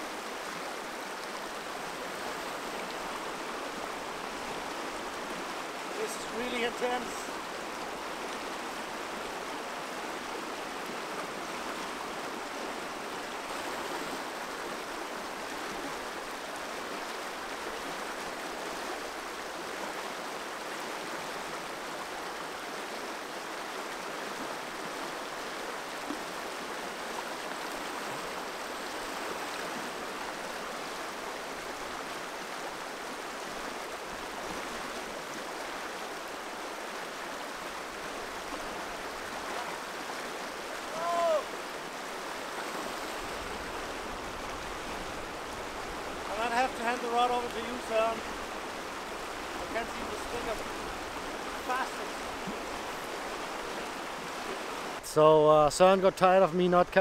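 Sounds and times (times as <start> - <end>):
river rushing over rocks: 0.0 - 56.3.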